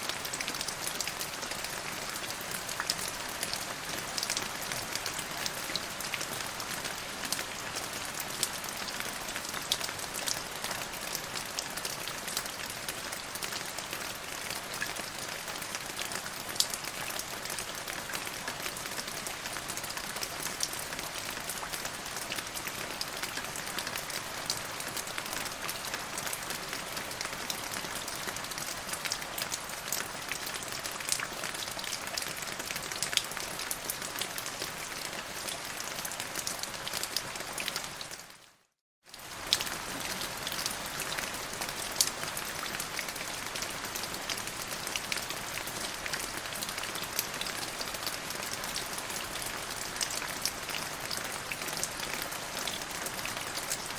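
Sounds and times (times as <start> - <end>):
rain patter: 0.0 - 53.9.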